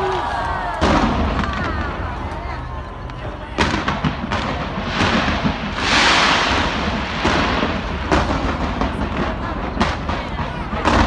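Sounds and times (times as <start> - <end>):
continuous low rumble: 0.0 - 11.0
fireworks bangs: 0.0 - 11.0
hissing crackling firework burst: 0.0 - 11.0.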